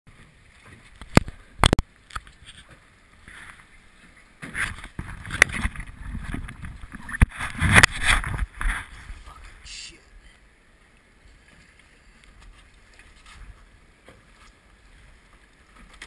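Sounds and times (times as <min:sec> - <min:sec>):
wind and water noise: 0:00.1 - 0:16.0.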